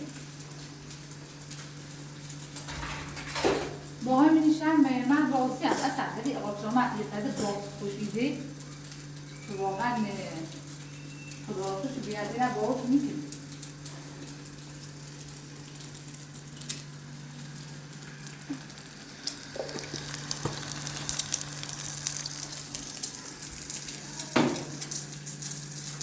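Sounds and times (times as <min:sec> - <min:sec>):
constant low hum: 0:00.0 - 0:26.0
food sizzling in a pan: 0:00.0 - 0:26.0.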